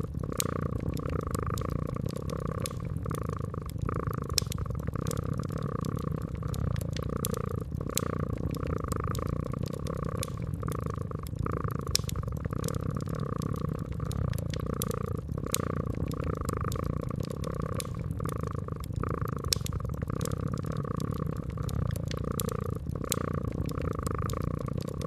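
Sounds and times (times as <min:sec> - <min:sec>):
cat purring: 0:00.0 - 0:25.0
wood fire crackling: 0:00.0 - 0:25.0.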